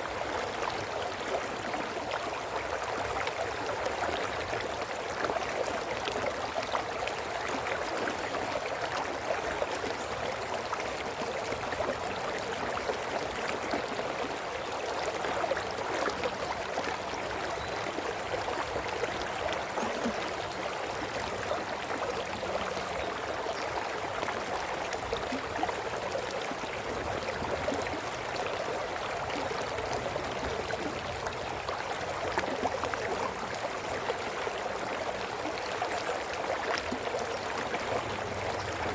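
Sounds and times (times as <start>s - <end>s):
brook babbling over stones: 0.0s - 38.9s.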